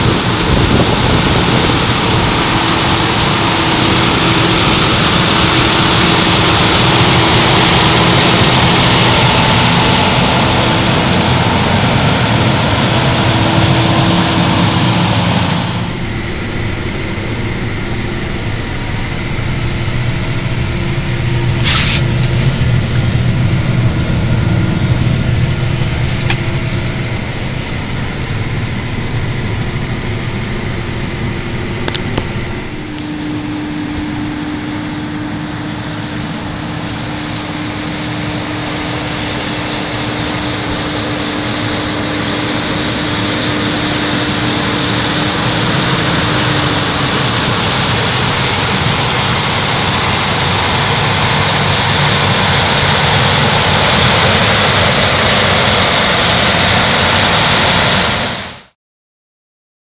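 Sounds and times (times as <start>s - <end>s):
tractor diesel engine running: 0.0s - 58.7s.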